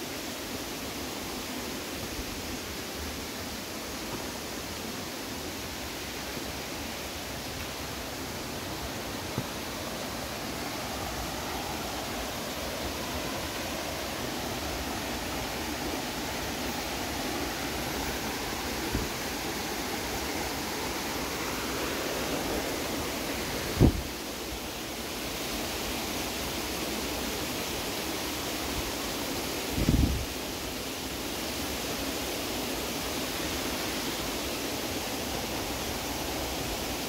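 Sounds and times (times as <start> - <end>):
creek water rushing over rocks: 0.0 - 37.0.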